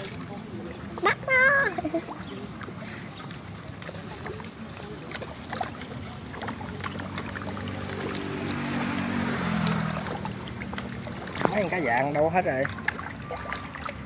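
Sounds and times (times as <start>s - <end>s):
fish splashing at water surface: 0.0s - 14.0s.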